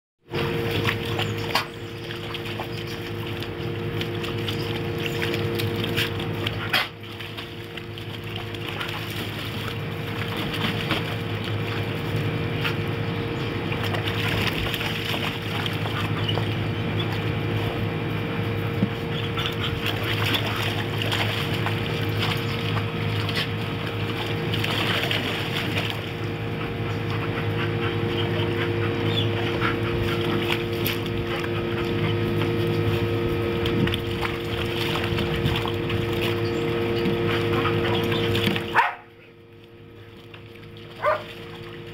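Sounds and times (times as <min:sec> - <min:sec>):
water splashing and sloshing: 0:00.2 - 0:41.9.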